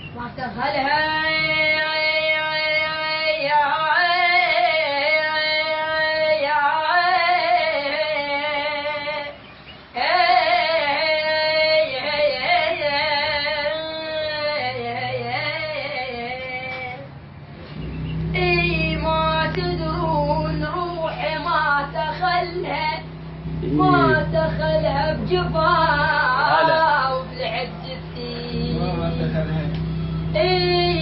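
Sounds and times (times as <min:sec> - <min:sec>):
woman singing with vibrato: 0:00.2 - 0:17.1, 0:18.3 - 0:29.3, 0:30.2 - 0:31.0.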